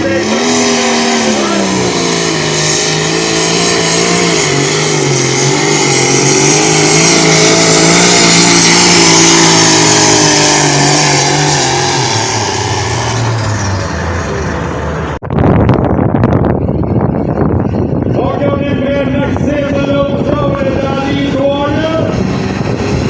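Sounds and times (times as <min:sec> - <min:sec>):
rough rumbling noise: 0:00.0 - 0:23.0
tractor engine running hard: 0:00.0 - 0:23.0.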